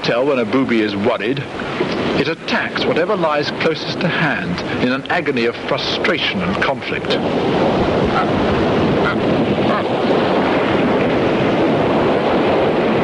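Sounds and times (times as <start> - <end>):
surf rushing on rocks: 0.0 - 13.0
wind: 0.0 - 13.0.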